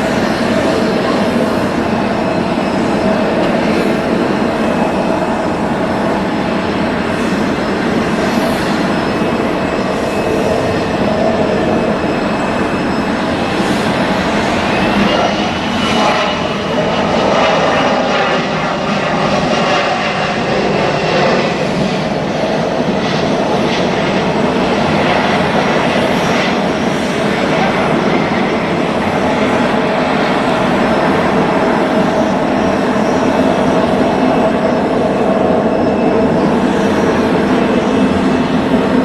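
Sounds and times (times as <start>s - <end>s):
high engine whine: 0.0s - 39.0s
jet engines running: 0.0s - 39.0s.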